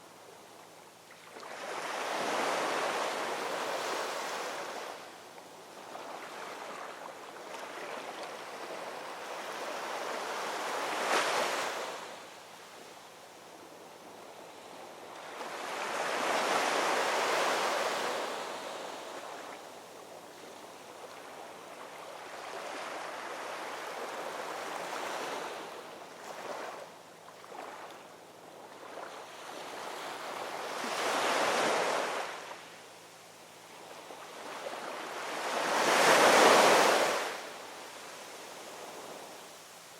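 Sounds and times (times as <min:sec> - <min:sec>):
ocean waves breaking on shore: 0:01.2 - 0:05.1, 0:05.7 - 0:12.3, 0:14.5 - 0:19.7, 0:20.3 - 0:27.9, 0:28.5 - 0:32.7, 0:33.8 - 0:39.9.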